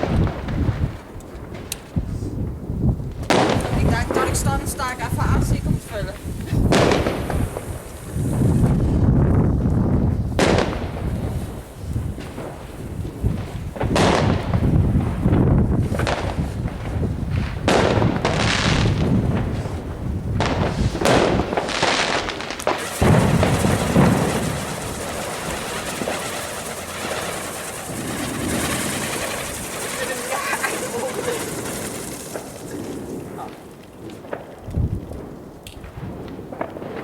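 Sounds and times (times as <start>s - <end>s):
fireworks banging and crackling: 0.0s - 37.0s.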